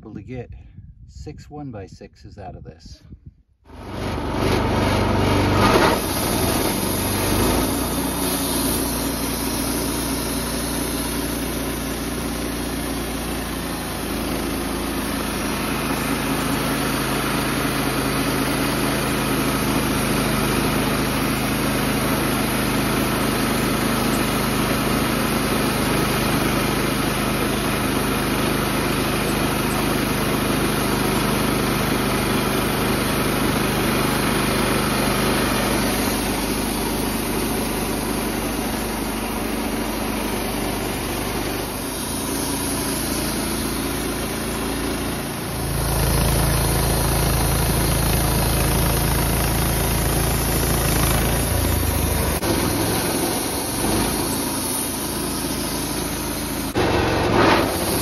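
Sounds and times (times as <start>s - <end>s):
band sawmill cutting wood: 3.7s - 58.0s.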